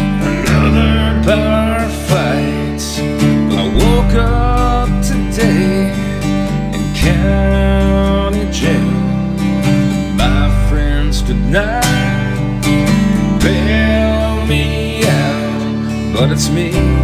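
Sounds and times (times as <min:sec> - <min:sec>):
bass notes: 0:00.0 - 0:17.0
bending lead melody: 0:00.0 - 0:17.0
strummed acoustic guitar: 0:00.0 - 0:17.0.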